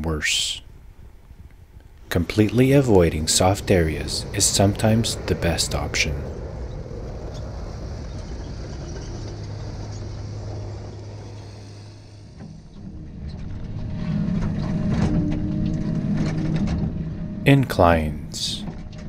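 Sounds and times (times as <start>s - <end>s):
diesel engine droning: 2.0s - 19.0s.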